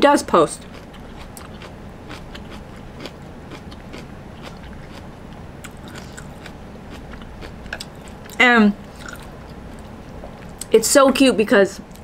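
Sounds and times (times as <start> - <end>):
person chewing: 0.6 - 10.7.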